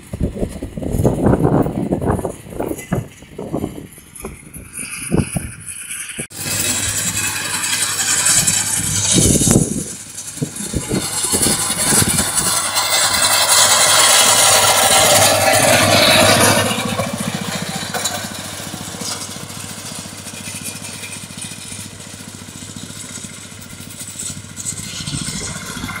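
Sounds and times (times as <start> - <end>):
drum mower whirring: 0.0 - 26.0
tractor engine running: 0.0 - 26.0.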